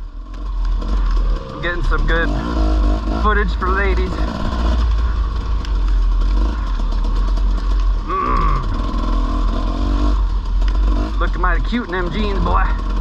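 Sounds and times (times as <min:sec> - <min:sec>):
dirt bike engine rumble: 0:00.0 - 0:13.0.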